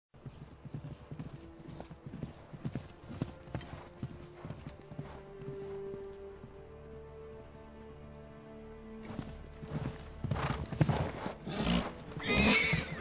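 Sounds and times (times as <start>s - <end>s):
horse hooves clip-clopping: 0.2s - 7.2s, 9.0s - 13.0s.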